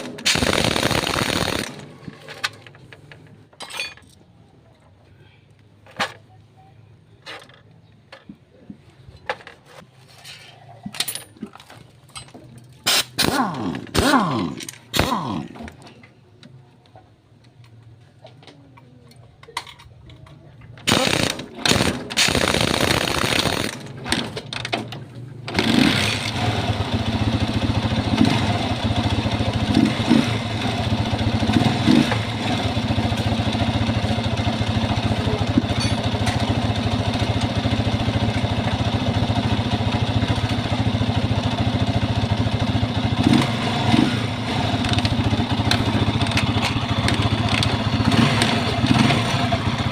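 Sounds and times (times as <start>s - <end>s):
motorcycle engine cranking and idling: 0.0s - 49.9s.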